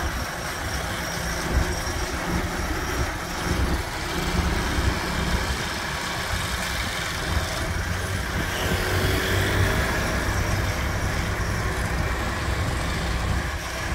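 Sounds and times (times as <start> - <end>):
diesel engine low rumble: 0.0 - 13.9.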